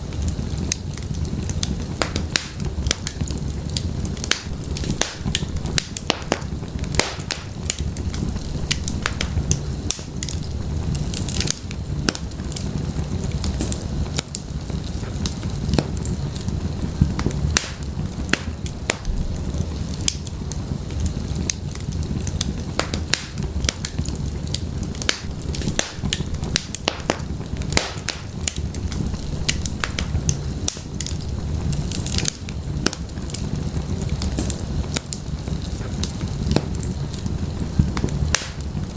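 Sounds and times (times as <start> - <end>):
firewood crackling and popping: 0.0 - 38.9
low rumble of flames: 0.0 - 38.9.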